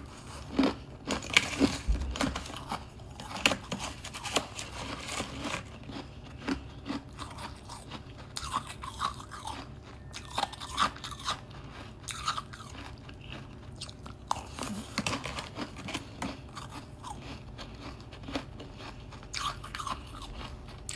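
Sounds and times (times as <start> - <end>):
person chewing crunchy frost: 0.0 - 20.9.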